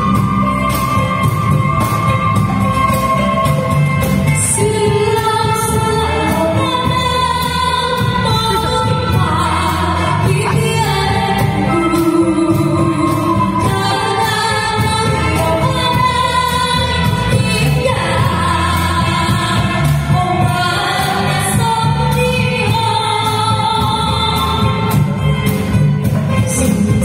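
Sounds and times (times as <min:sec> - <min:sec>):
song over loudspeaker: 0:00.0 - 0:27.0.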